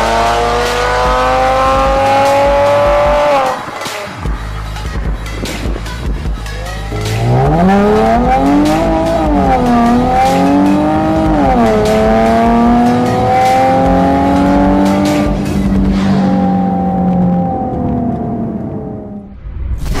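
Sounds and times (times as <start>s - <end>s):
car engine accelerating through gears: 0.0s - 3.9s, 6.9s - 19.3s.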